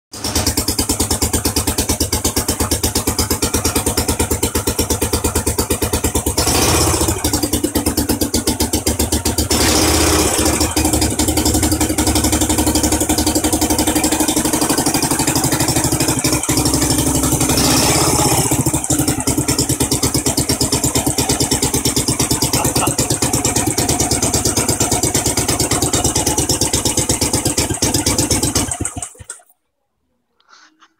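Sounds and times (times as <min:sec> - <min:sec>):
scooter engine ticking over: 0:00.1 - 0:29.5.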